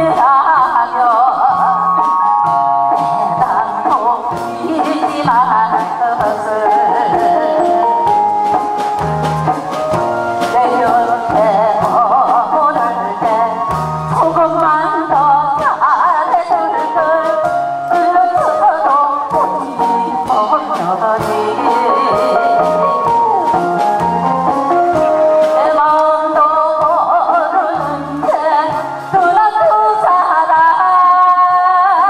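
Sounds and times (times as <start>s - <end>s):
woman singing into a microphone: 0.0s - 8.2s, 9.5s - 32.0s
instrumental accompaniment with beat: 0.0s - 32.0s.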